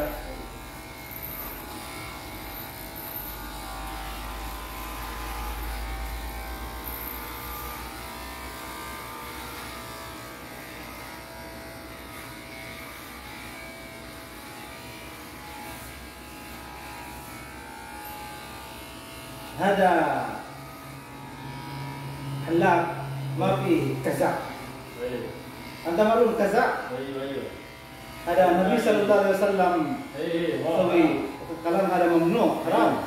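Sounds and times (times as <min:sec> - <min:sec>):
electric hair clippers buzzing: 0:00.0 - 0:33.0.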